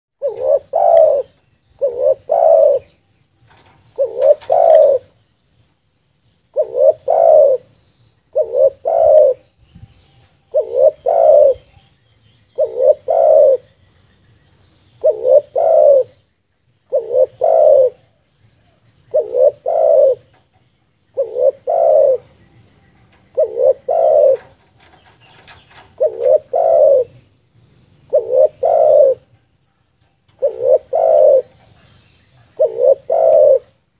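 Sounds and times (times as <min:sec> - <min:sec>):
dove cooing: 0:00.2 - 0:05.2, 0:06.5 - 0:09.6, 0:10.3 - 0:11.8, 0:12.5 - 0:13.8, 0:15.0 - 0:16.3, 0:16.9 - 0:27.4, 0:28.0 - 0:33.9.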